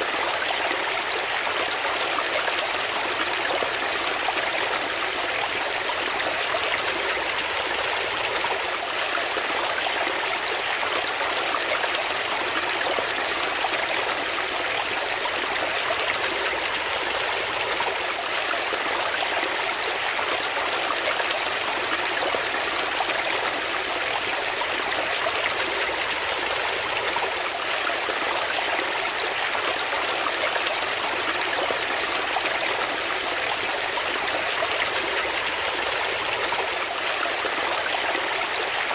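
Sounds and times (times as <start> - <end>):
brook flowing over rocks: 0.0 - 38.9.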